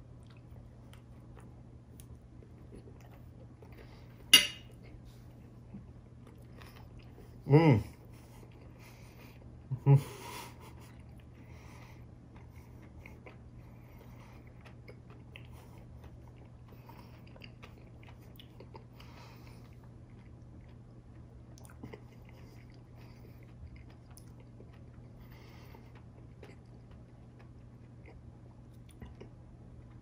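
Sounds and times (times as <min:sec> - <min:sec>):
faint crunching and mouth sounds: 0:00.0 - 0:30.0
person chewing food: 0:00.0 - 0:30.0
steady low hum: 0:00.0 - 0:30.0.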